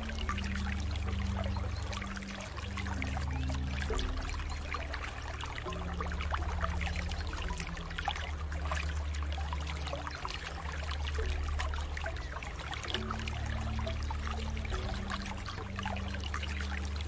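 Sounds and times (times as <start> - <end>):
low steady hum: 0.0 - 17.0
water running and splashing: 0.0 - 17.0.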